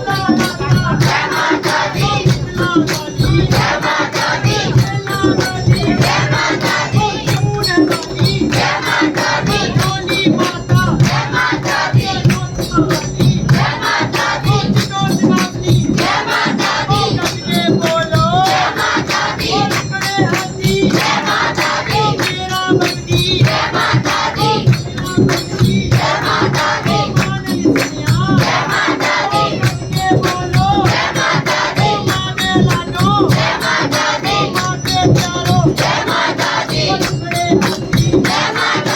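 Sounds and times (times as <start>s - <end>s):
group singing devotional song: 0.0s - 38.9s
percussion beat: 0.0s - 38.9s
tambourine jingles: 0.0s - 38.9s.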